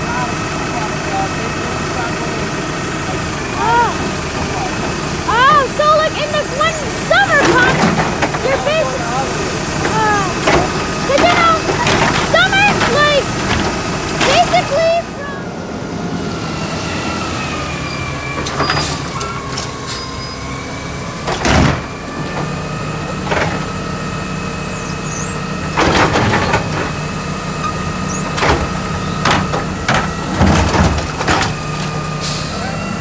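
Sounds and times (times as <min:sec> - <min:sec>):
garbage truck engine: 0:00.0 - 0:33.0.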